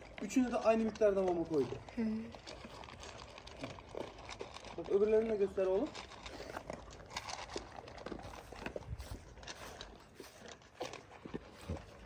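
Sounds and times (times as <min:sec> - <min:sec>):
puppy crunching kibble: 0:00.0 - 0:12.0.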